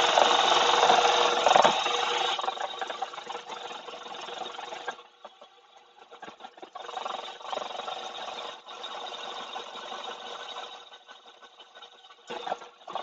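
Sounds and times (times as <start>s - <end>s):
electric hand mixer whirring: 0.0s - 5.0s, 6.5s - 11.4s, 12.2s - 13.0s.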